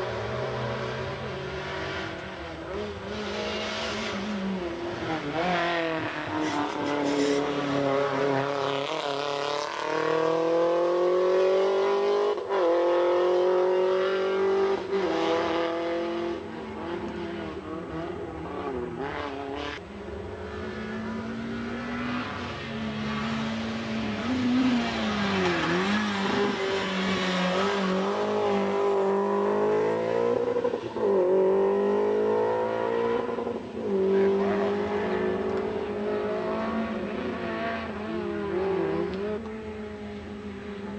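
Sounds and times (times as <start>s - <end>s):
race car engines revving: 0.0s - 40.9s.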